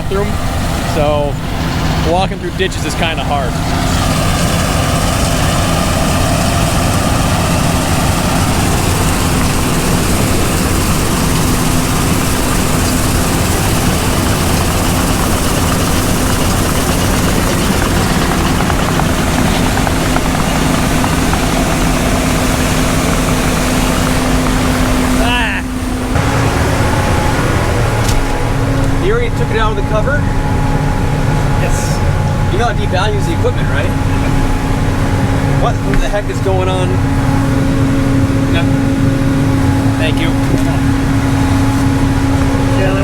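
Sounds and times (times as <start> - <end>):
combine harvester droning: 0.0 - 43.0.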